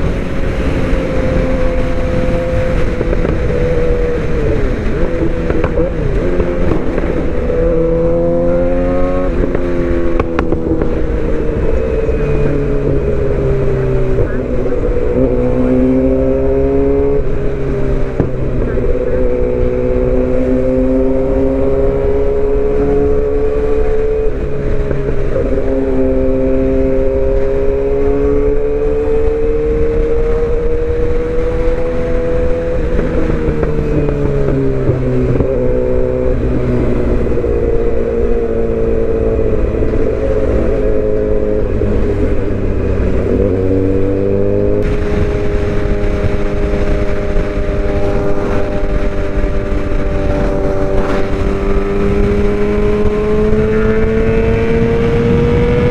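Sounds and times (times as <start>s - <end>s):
motorcycle engine cruising: 0.0s - 55.9s
wind noise: 0.0s - 55.9s.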